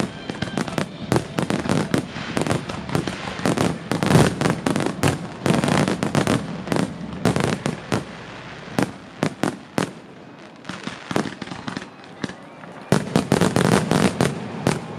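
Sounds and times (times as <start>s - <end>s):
fireworks bursting: 0.0s - 14.9s.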